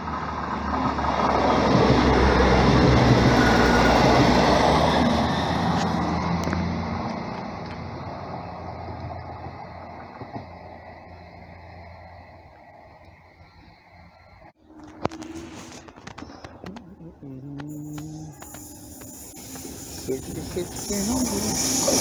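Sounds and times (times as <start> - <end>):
wheel-on-rail rushing noise: 0.0 - 16.8, 17.8 - 22.0
diesel engines growling: 0.0 - 22.0.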